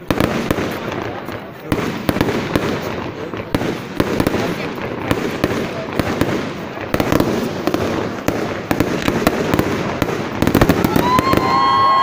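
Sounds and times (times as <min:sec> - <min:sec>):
fireworks bangs and crackles: 0:00.0 - 0:12.0
high whistling fireworks: 0:00.0 - 0:12.0.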